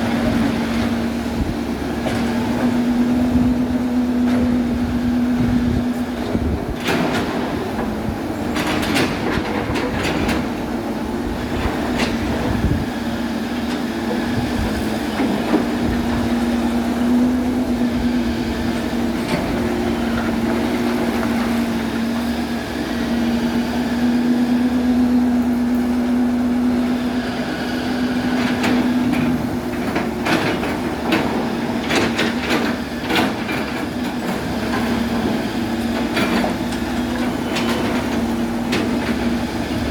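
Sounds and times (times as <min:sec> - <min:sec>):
excavator engine humming: 0:00.0 - 0:39.9.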